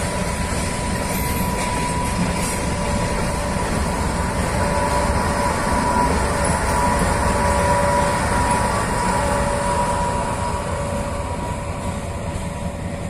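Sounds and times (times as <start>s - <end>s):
diesel locomotive engine whine: 0.0s - 13.0s
wheels rumbling on rails: 0.0s - 13.0s.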